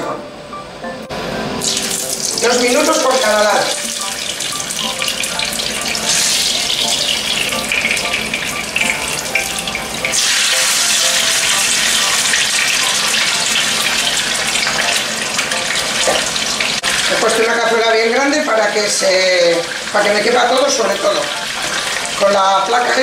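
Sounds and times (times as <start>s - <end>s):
fish sizzling in a pan: 1.6s - 17.2s, 18.8s - 23.0s.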